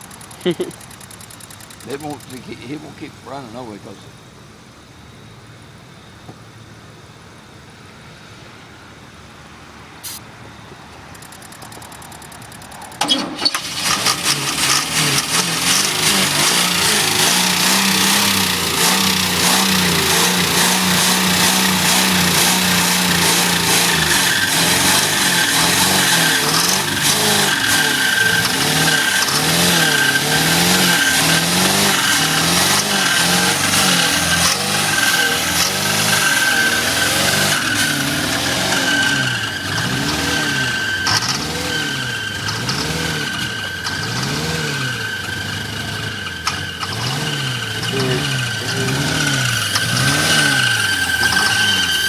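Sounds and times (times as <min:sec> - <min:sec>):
car engine running rough: 0:00.0 - 0:52.0.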